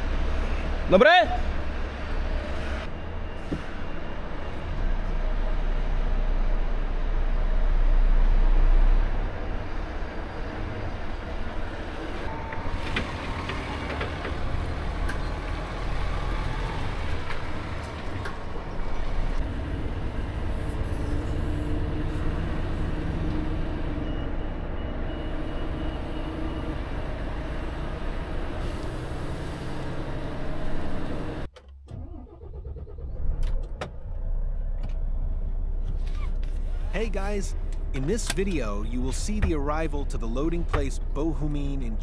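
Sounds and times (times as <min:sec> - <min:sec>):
truck diesel engine running: 0:00.0 - 0:31.5, 0:36.5 - 0:42.0.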